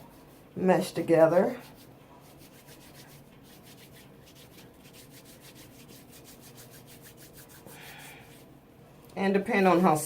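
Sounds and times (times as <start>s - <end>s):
palms rubbing hair: 0.0s - 8.6s.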